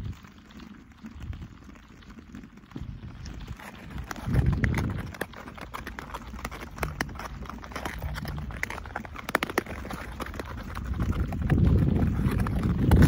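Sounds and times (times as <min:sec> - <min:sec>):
lake ice crackling: 0:00.0 - 0:13.0
wind rumble on microphone: 0:00.0 - 0:13.0.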